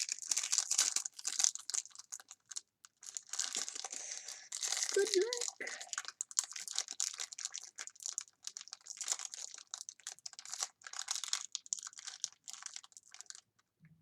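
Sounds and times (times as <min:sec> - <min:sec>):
foil wrapper crinkling: 0:00.0 - 0:13.6.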